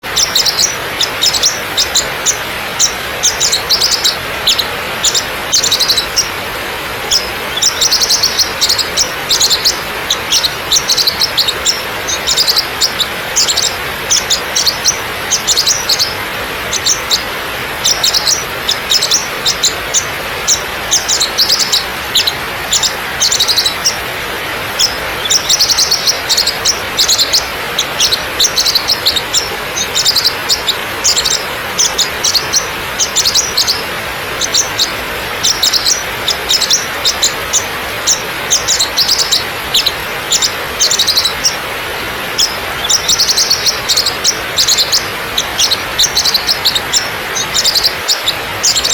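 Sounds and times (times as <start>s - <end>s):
birds chirping: 0.0s - 48.9s
waterfall rushing over rock: 0.0s - 48.9s.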